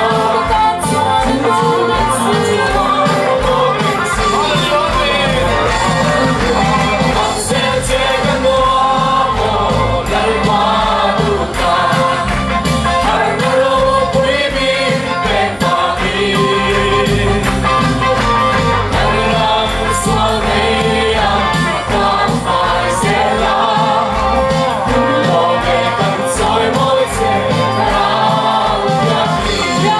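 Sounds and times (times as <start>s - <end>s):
band playing: 0.0s - 29.9s
drum beat: 0.0s - 29.9s
group singing gospel song: 0.0s - 29.9s.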